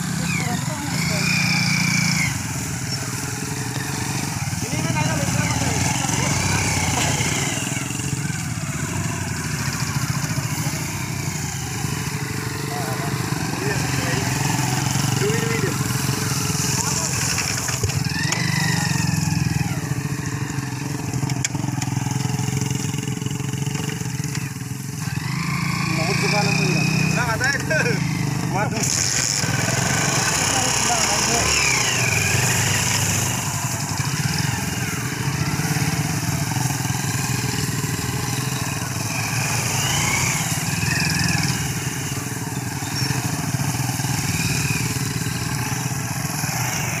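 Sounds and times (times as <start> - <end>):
motorcycle engine at low speed: 0.0 - 47.0.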